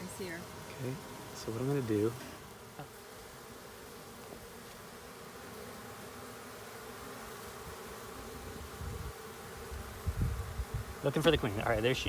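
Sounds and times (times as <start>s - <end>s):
bee swarm humming: 0.0s - 12.0s.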